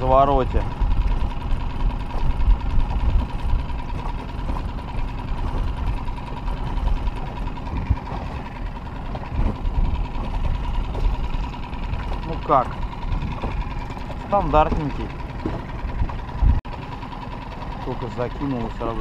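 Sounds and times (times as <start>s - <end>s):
boat motor rumbling: 0.0s - 19.0s.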